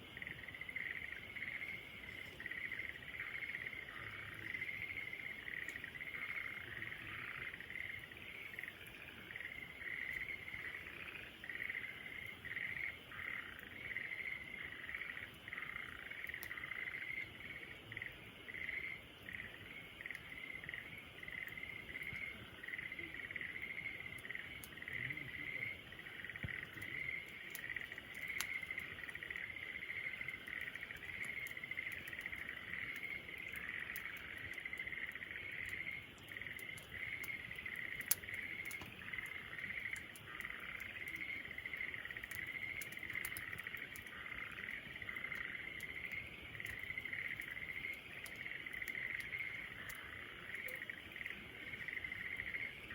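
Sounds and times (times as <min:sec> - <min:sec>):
campfire crackling: 0:00.0 - 0:52.9
insects chirping: 0:00.0 - 0:52.9.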